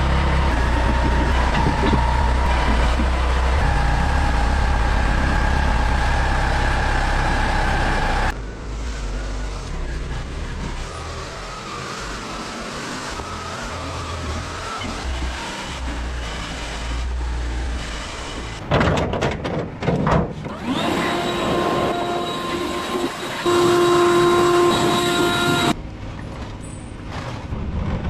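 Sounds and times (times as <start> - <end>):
vehicle engine rumble and whine: 0.0 - 28.0.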